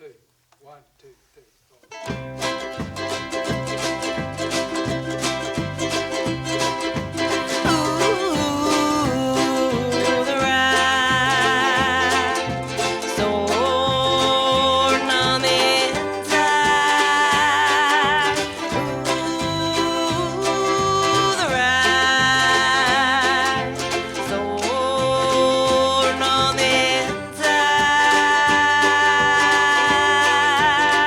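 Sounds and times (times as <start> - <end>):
ukulele string band playing: 1.9 - 31.0
bass alternating notes: 2.1 - 31.0.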